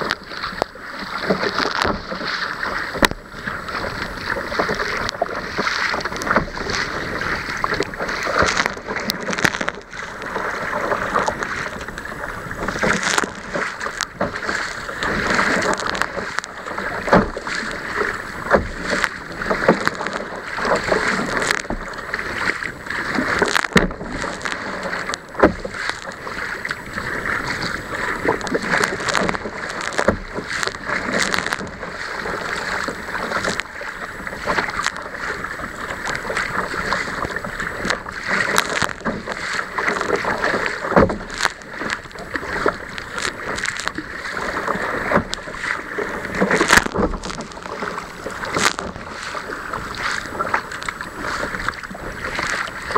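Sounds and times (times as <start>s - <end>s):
water rushing along kayak hull: 0.0s - 52.9s
waves slapping boat: 0.0s - 52.9s.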